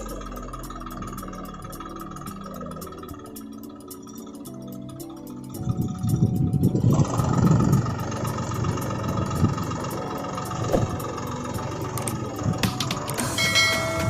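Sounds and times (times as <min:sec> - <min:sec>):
music: 0:00.0 - 0:14.0
tractor engine rumbling: 0:00.0 - 0:14.0.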